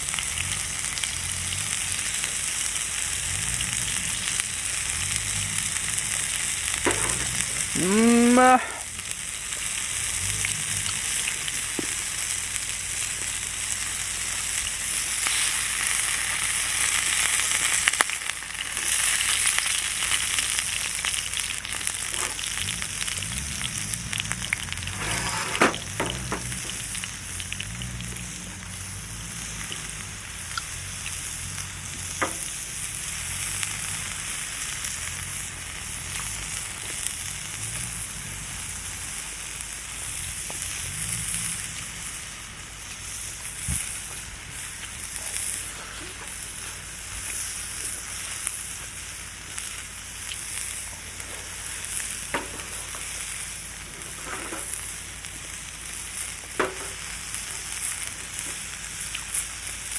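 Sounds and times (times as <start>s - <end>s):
meat sizzling on grill plate: 0.0s - 59.9s.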